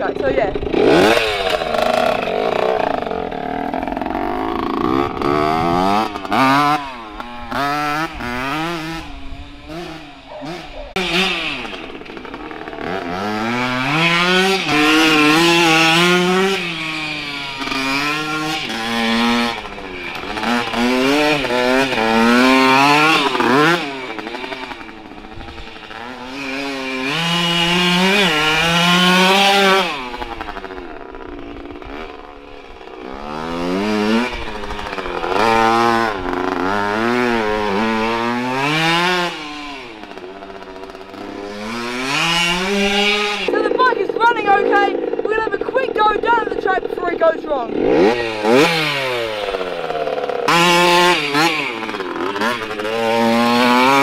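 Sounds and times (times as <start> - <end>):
two-stroke motorbike engine revving: 0.0 - 54.0.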